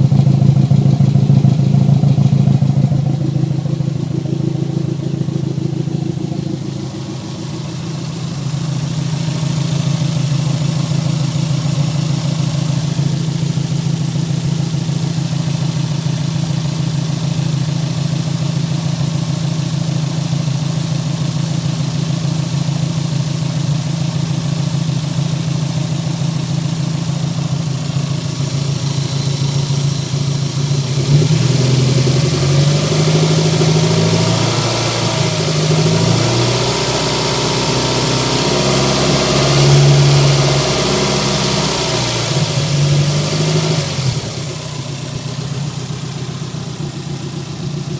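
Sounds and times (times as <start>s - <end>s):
car engine idling unevenly: 0.0s - 47.9s
exhaust popping: 0.0s - 47.9s.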